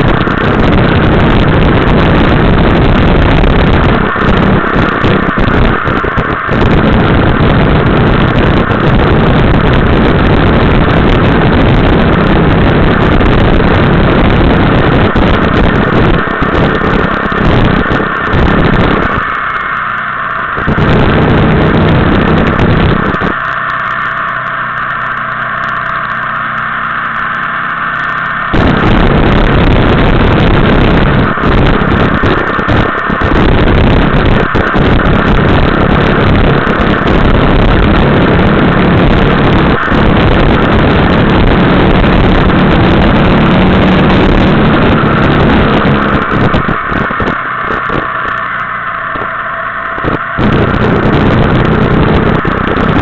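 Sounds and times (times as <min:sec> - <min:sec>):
motorcycle engine at speed: 0:00.0 - 0:53.0
wind rush on microphone: 0:00.0 - 0:53.0.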